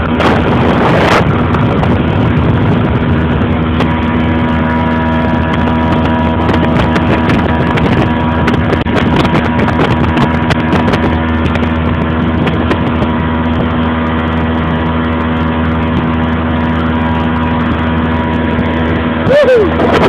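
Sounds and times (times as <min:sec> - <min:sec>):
outboard engine running: 0:00.0 - 0:20.0
water noise: 0:00.0 - 0:20.0
wind noise: 0:00.0 - 0:20.0.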